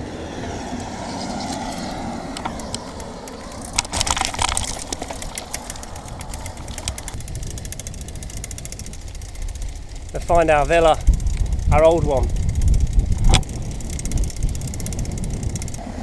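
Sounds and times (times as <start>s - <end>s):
wind buffeting microphone: 0.0s - 16.0s
bicycle rattling: 0.7s - 16.0s
fast even ticking: 2.5s - 15.8s.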